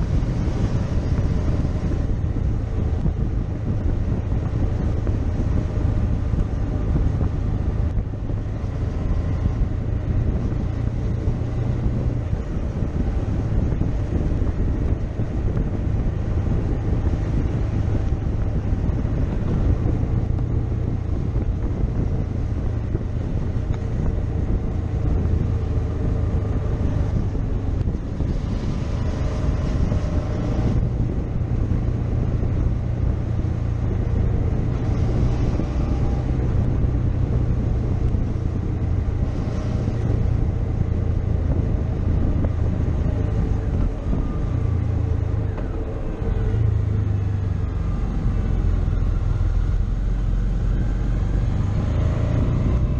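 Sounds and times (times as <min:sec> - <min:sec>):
motorcycle engine drone: 0:00.0 - 0:52.9
wind noise on microphone: 0:00.0 - 0:52.9.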